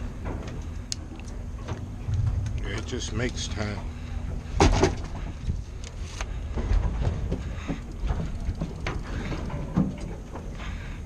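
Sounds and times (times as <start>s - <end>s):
uneven low rumble: 0.0s - 9.3s.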